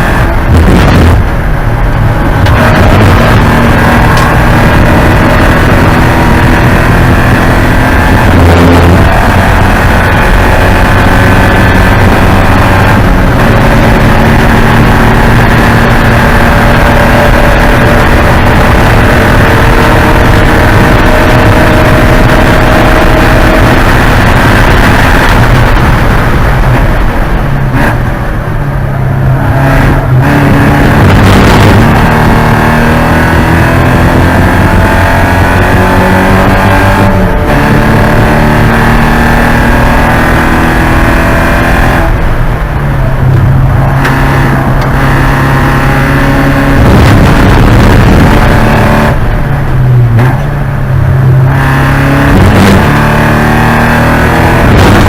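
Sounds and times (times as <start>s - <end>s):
race car engine revving high: 0.0s - 55.0s.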